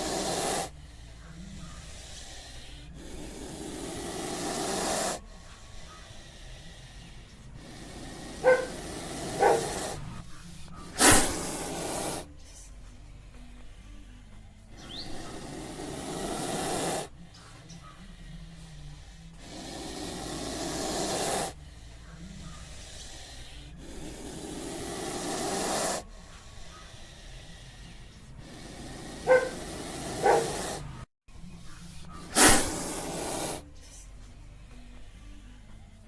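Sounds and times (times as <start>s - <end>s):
snake hissing: 0.0s - 36.0s.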